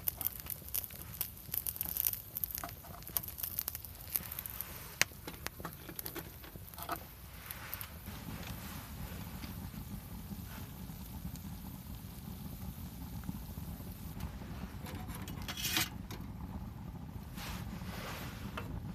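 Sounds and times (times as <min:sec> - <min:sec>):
sharp pops from fire: 0:00.0 - 0:16.6
low steady rumble: 0:00.0 - 0:18.9
wood fire crackling: 0:00.0 - 0:18.9.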